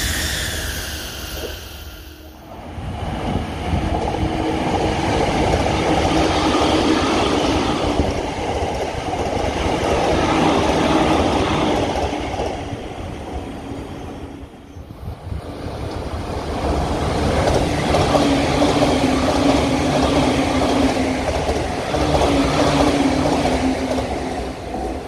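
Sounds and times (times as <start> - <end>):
train wheel-on-rail rush: 0.0 - 25.0.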